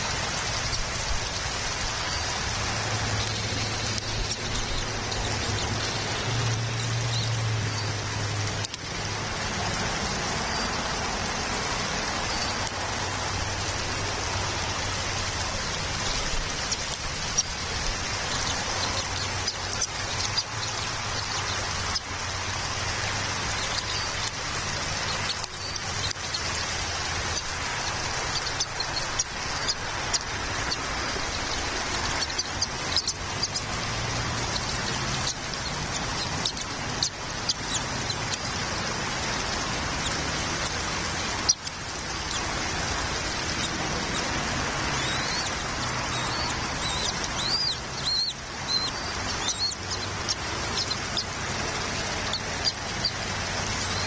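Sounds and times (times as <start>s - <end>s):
raindrops ticking close by: 0.0s - 54.0s
steady rain: 0.0s - 54.0s.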